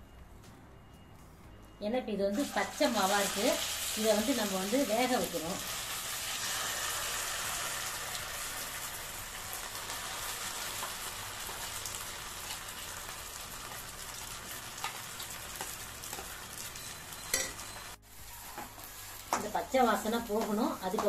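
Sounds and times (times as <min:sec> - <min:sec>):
hot oil sizzling: 0:02.3 - 0:21.0.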